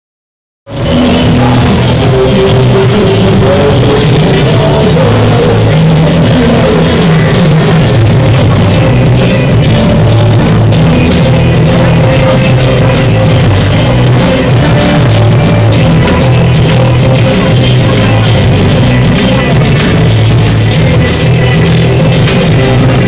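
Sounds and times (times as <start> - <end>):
loud rock dance music with drums: 0.7 - 23.0.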